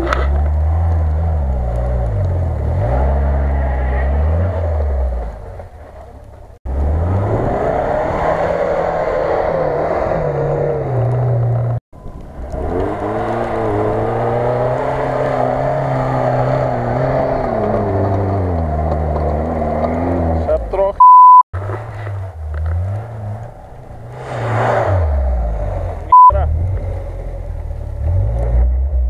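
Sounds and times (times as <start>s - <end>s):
car engines revving hard: 0.0s - 11.8s, 12.4s - 21.0s, 21.6s - 29.0s.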